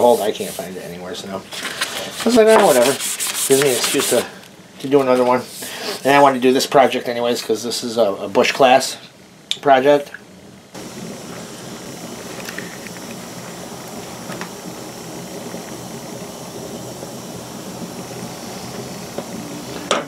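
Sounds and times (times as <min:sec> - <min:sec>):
dye simmering hiss and bubble: 0:00.0 - 0:20.0.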